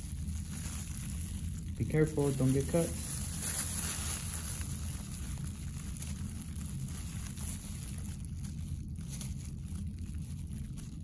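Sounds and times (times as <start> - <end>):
low hum: 0.0 - 11.0
plastic gloves crinkling: 0.0 - 11.0.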